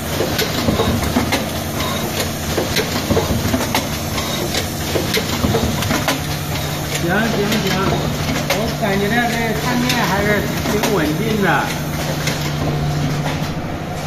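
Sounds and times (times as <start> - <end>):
machine clicks and clacks: 0.0 - 13.6
machine low hum: 0.0 - 14.0.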